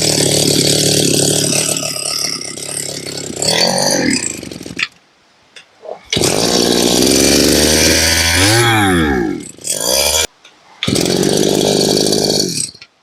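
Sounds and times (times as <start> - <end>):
brush cutter engine running: 0.0 - 5.0, 5.8 - 12.7.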